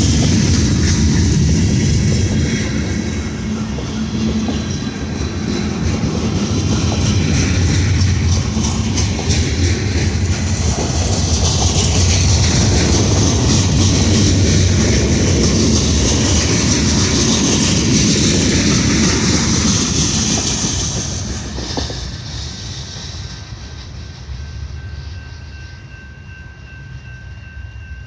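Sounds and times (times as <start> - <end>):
wheels rattling on rails: 0.0 - 27.5
freight train rumbling past: 0.0 - 28.0.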